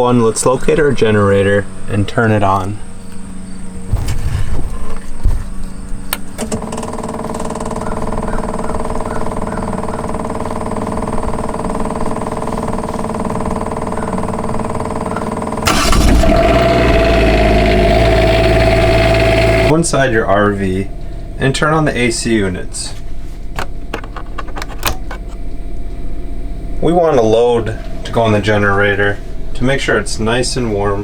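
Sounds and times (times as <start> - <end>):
generator engine hum: 0.0 - 31.0.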